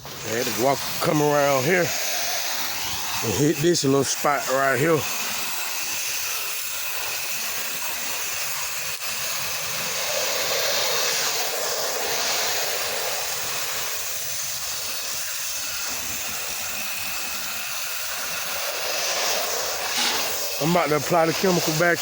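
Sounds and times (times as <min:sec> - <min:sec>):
pressure washer spray hissing: 0:00.0 - 0:22.0.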